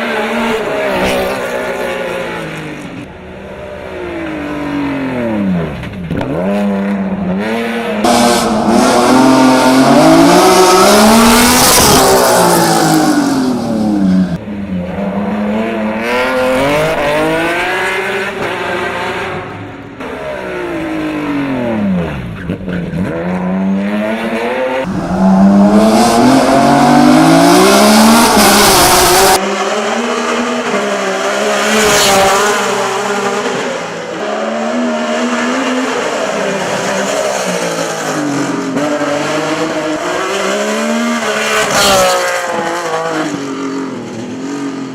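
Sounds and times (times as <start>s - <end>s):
race car engines accelerating: 0.0s - 44.8s.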